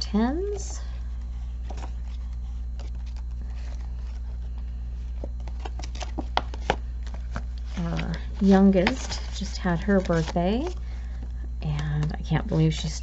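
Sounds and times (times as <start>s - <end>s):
steady low hum: 0.0s - 13.0s
banknotes rustling: 0.3s - 12.9s.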